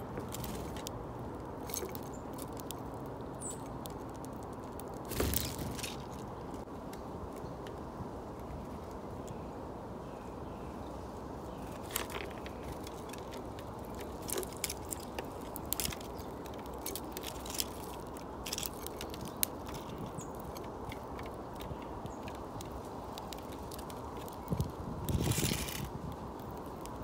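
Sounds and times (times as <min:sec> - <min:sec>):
birds pecking clicks: 0:00.0 - 0:07.8, 0:11.6 - 0:27.0.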